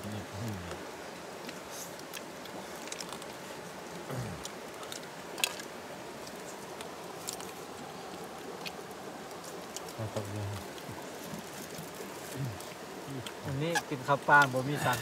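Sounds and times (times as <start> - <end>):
background hiss: 0.0 - 15.0
soft rustling: 0.8 - 15.0.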